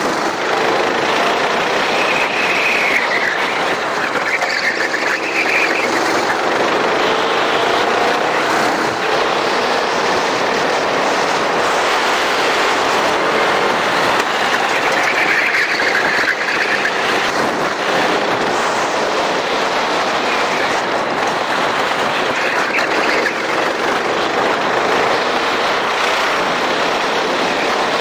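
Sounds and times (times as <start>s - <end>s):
kart engine racing: 0.0s - 28.0s
noisy rush: 0.0s - 28.0s.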